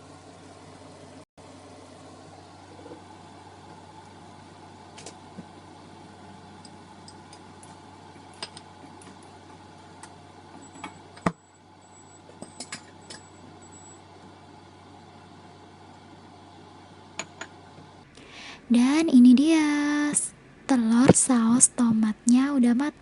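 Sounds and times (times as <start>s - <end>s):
cooking hiss and hum: 0.0s - 23.0s.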